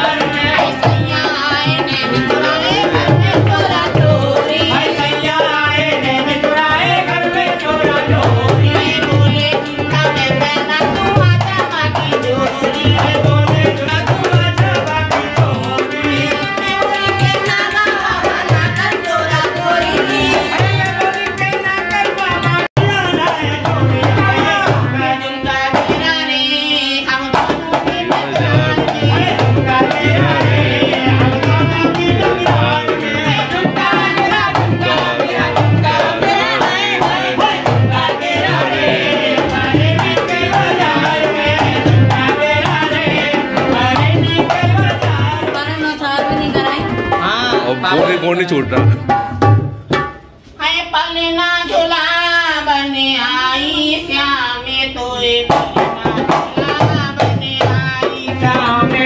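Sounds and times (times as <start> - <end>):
person singing: 0.0 - 49.0
harmonium: 0.0 - 50.0, 51.3 - 59.0
barrel drum playing: 0.0 - 50.4.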